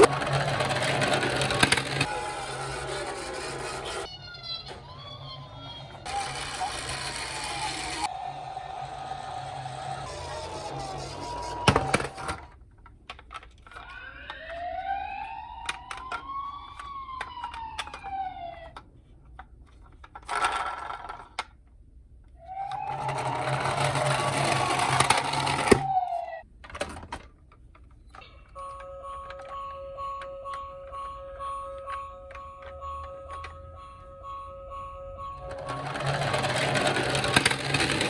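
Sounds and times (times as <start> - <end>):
emergency vehicle siren wailing: 0.0 - 12.4, 13.7 - 18.8, 22.4 - 26.5, 28.5 - 38.0.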